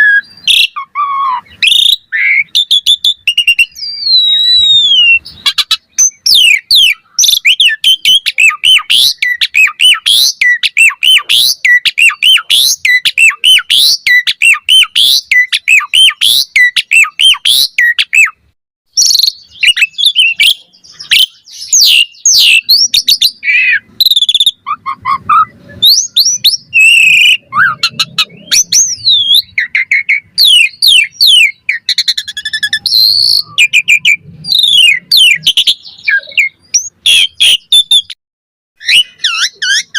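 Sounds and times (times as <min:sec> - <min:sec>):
starling singing whistled notes: 0:00.0 - 0:38.2, 0:38.8 - 0:39.9.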